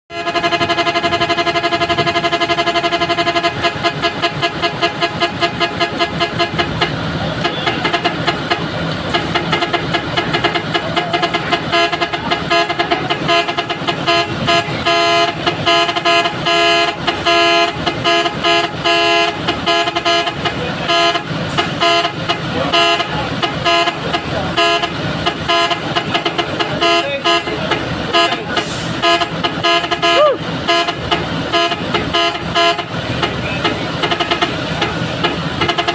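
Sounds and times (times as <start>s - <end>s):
loud horn pulsing: 0.1s - 35.9s.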